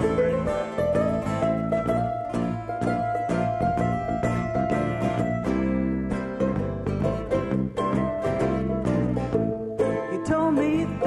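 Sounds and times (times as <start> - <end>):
acoustic guitars strumming: 0.0 - 11.0
mandolin picking: 0.0 - 11.0.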